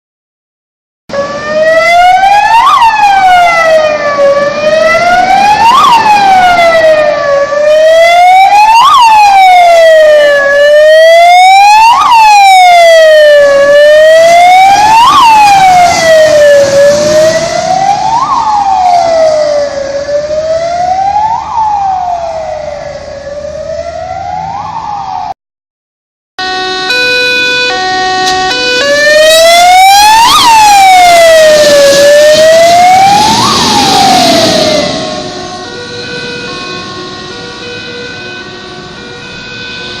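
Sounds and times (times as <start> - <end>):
stepped siren tone: 1.1 - 25.3, 26.4 - 40.0
fire engine siren wailing: 1.1 - 25.4, 26.4 - 40.0.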